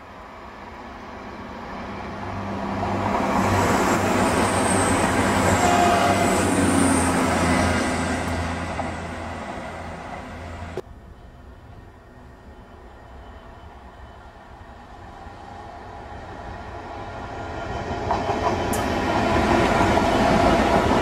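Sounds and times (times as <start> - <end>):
train wheels rushing on rails: 0.7 - 21.0.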